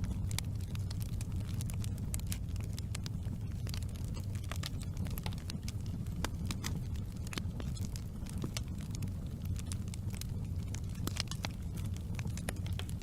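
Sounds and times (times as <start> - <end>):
low rumble of flames: 0.0 - 13.0
wood fire crackling: 0.0 - 13.0.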